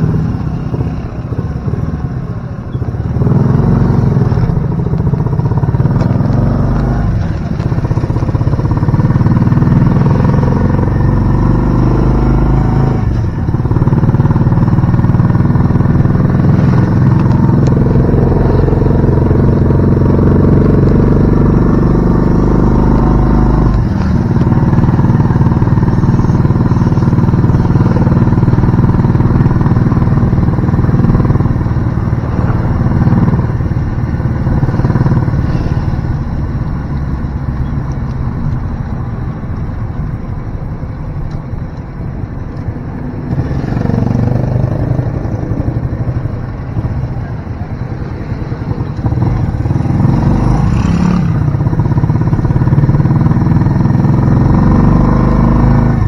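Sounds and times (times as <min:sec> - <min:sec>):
motorcycle engine running: 0:00.0 - 0:38.6, 0:43.2 - 0:56.0.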